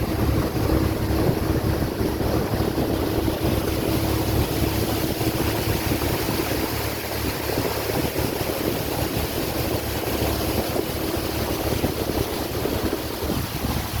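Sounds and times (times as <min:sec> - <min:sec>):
motorboat engine hum: 0:00.0 - 0:14.0
water rushing past hull: 0:00.0 - 0:14.0
wind buffeting microphone: 0:00.0 - 0:14.0.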